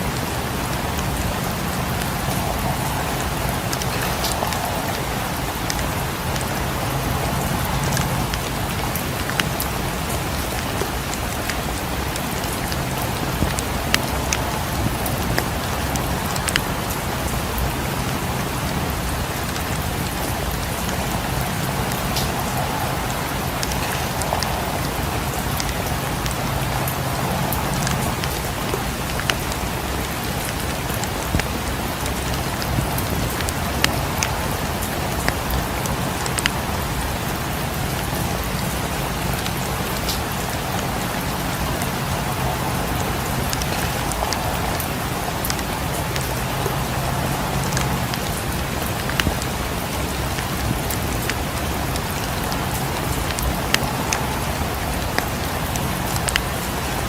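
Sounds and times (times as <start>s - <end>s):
constant low rumble: 0.0s - 57.0s
crackling fireplace fire: 0.0s - 57.0s
steady rain falling: 0.0s - 57.0s.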